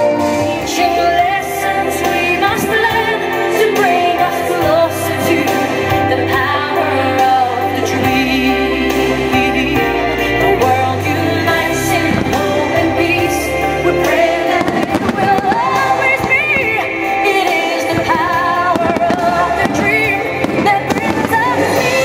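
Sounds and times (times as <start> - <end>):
pop ballad with woman singing: 0.0 - 22.0.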